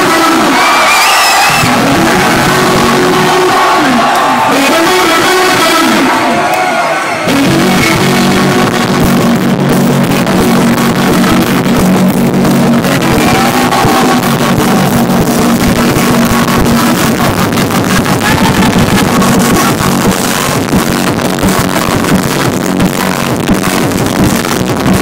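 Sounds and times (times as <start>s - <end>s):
loud distorted electronic rock music: 0.0s - 25.0s.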